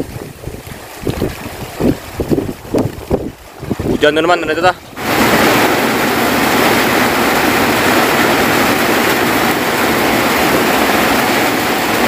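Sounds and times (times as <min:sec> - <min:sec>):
heavy rain on a metal roof: 0:00.0 - 0:12.0.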